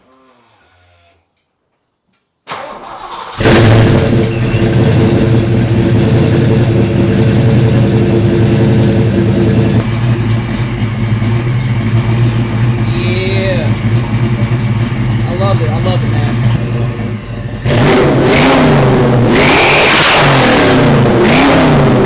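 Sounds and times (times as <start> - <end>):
car engine idling: 2.9 - 22.0.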